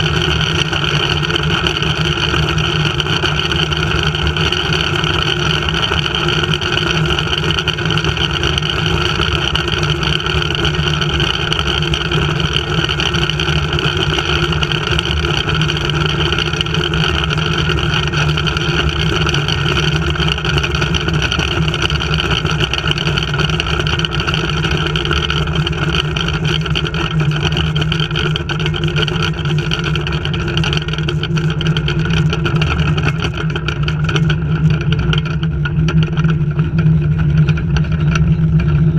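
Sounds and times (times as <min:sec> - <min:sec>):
zipline trolley pulley drone: 0:00.0 - 0:38.9.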